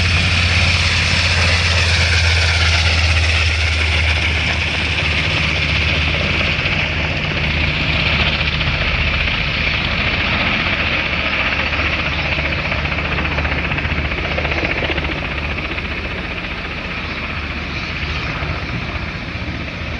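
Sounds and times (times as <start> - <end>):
helicopter rotor beat: 0.0 - 19.9
turbine engine whine: 0.0 - 19.9.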